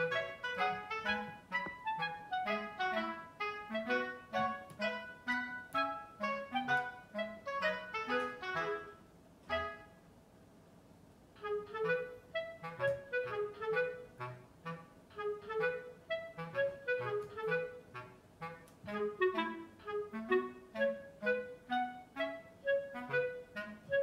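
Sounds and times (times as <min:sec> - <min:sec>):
light instrumental music: 0:00.0 - 0:10.0, 0:11.4 - 0:24.0.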